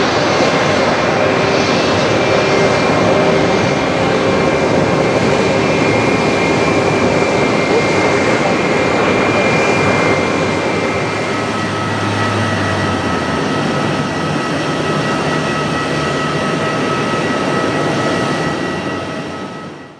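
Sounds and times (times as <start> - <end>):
jet engine rushing and whining: 0.0 - 19.9.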